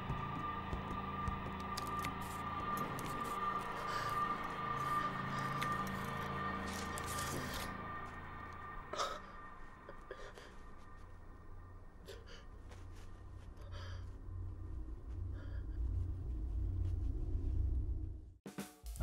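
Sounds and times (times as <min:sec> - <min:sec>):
low rumbling drone: 0:00.0 - 0:18.4.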